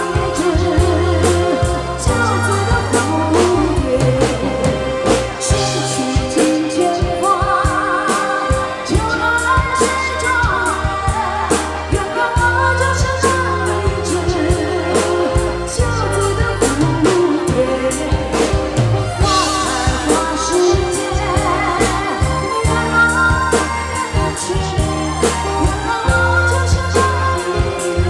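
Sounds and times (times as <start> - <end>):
bass: 0.0 - 28.0
person singing with vibrato: 0.0 - 28.0
steady drum beat: 0.0 - 28.0.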